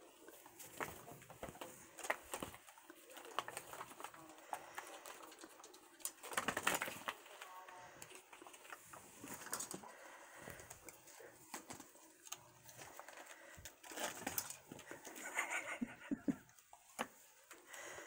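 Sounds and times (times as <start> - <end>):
kittens batting at toys: 0.0 - 18.0
scratches and rustles: 0.0 - 18.0.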